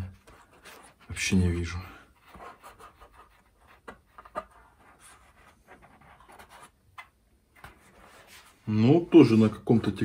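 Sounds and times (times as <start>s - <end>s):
faint scratching: 0.0s - 9.8s.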